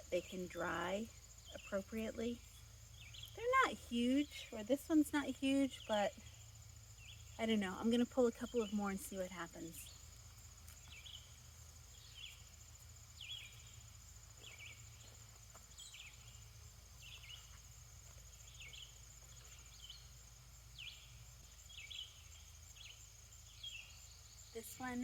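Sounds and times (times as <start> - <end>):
bird chirping: 0.0 - 25.0
high insect trill: 0.0 - 25.0.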